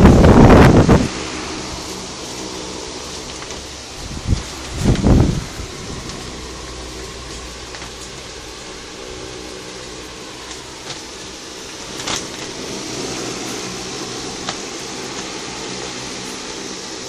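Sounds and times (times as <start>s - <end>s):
water pump humming: 0.0s - 17.0s.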